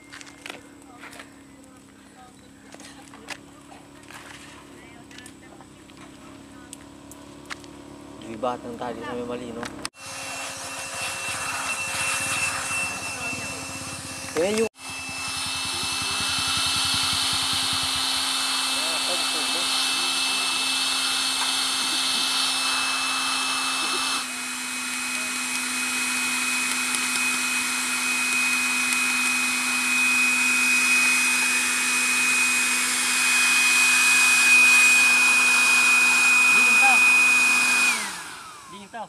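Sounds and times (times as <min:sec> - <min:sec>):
motor humming and whining: 0:00.0 - 0:39.0.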